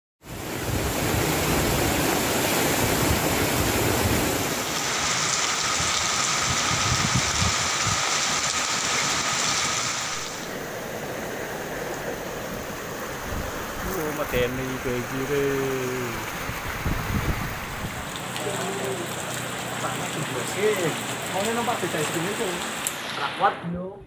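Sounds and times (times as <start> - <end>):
running water: 0.2 - 23.7
heavy rain pouring: 0.2 - 23.9.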